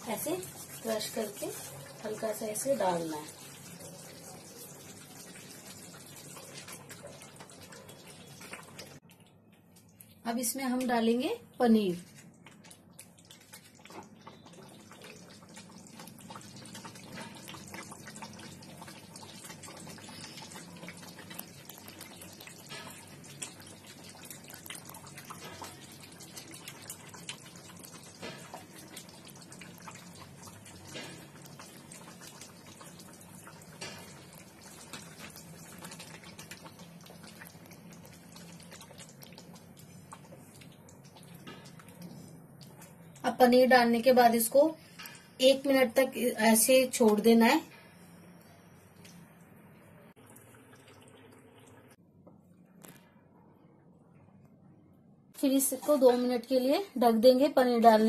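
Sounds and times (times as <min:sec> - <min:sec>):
gravy bubbling in a pan: 0:00.0 - 0:52.1.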